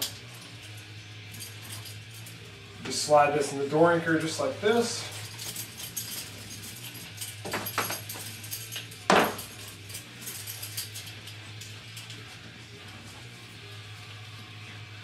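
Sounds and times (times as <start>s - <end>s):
band clips and handles clinking: 0.0s - 13.3s.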